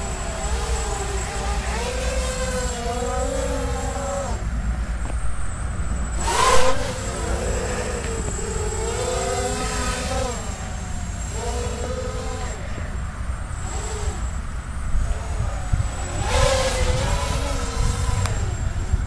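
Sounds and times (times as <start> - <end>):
drone motors and propellers whining: 0.0 - 19.0.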